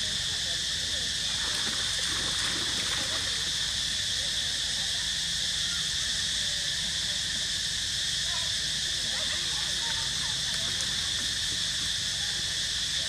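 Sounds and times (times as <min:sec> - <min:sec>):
faint distant voices: 0:00.0 - 0:13.0
insect chorus drone: 0:00.0 - 0:13.0.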